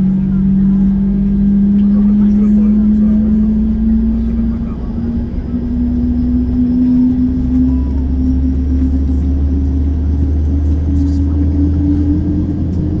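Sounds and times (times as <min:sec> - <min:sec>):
airplane cabin rumble: 0:00.0 - 0:13.0
humming tone: 0:00.0 - 0:13.0.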